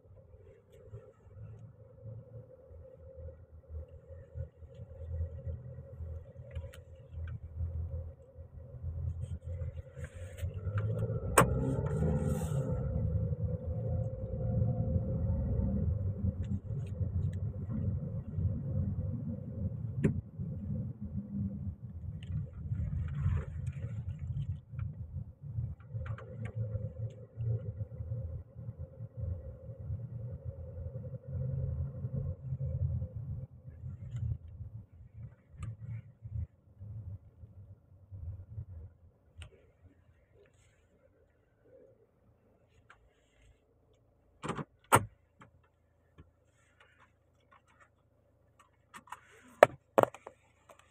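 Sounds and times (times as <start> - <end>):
engine and road rumble in car: 0.0 - 50.9.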